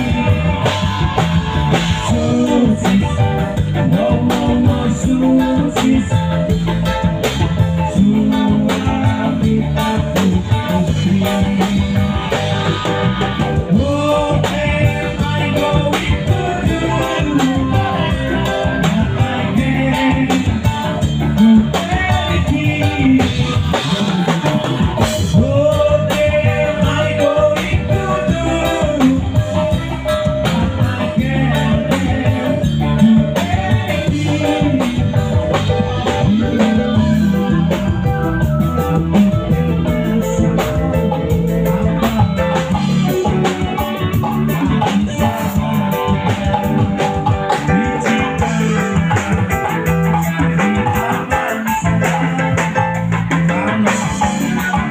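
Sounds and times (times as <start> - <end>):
person singing: 0.0 - 52.8
drum kit: 0.0 - 54.9
guitar: 0.0 - 54.9.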